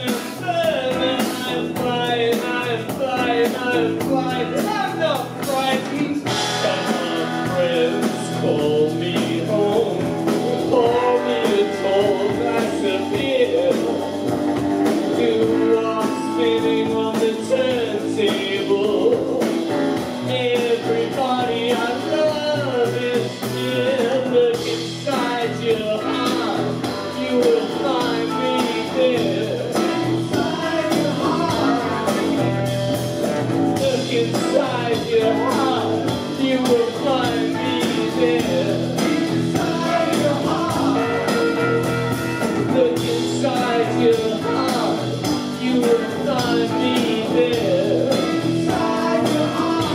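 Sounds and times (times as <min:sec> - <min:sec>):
person singing lead: 0:00.0 - 0:14.2, 0:15.0 - 0:32.7, 0:33.8 - 0:49.9
drums: 0:00.0 - 0:49.9
electric guitar: 0:00.0 - 0:49.9.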